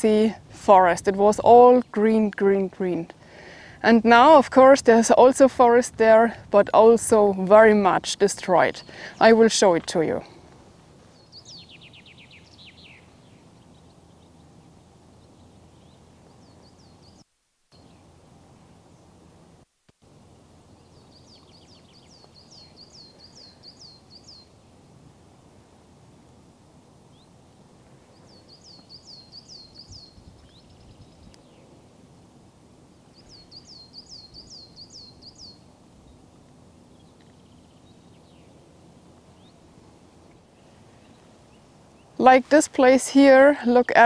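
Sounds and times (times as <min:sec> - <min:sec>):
faint open-air background noise: 0:00.0 - 0:44.0
songbird singing: 0:00.0 - 0:44.0.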